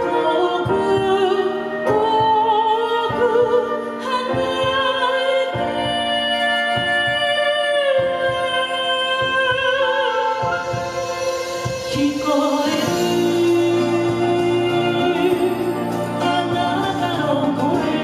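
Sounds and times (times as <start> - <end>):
woman singing through speaker: 0.0 - 11.0, 11.9 - 18.0
musical accompaniment: 0.0 - 18.0.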